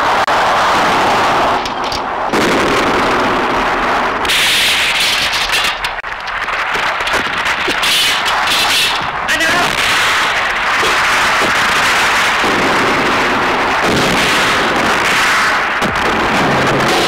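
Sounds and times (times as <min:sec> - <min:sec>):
explosions: 0:00.0 - 0:17.0
gunfire: 0:00.9 - 0:17.0
rapid sharp shots: 0:01.0 - 0:17.0.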